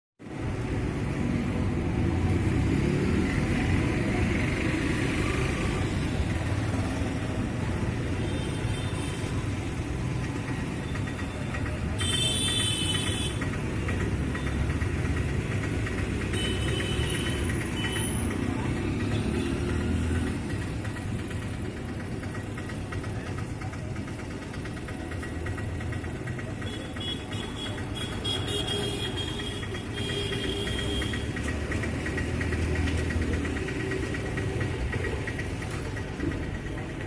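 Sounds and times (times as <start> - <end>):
engine idling: 5.9 - 37.0.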